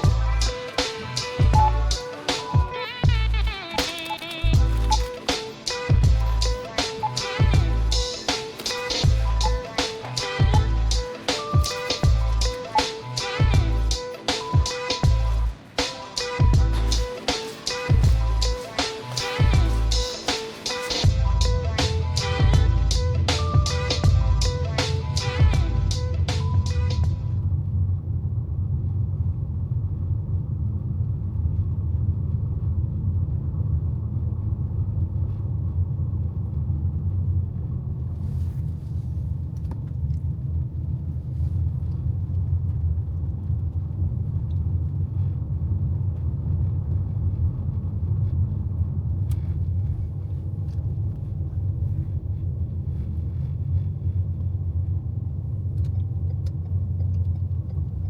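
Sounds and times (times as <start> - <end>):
car interior road and engine noise: 0.0 - 58.0.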